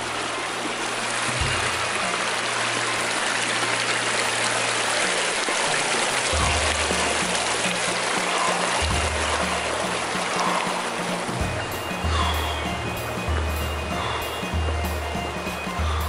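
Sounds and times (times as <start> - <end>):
creek rushing over rocks: 0.0 - 16.0
low background music: 0.0 - 16.0.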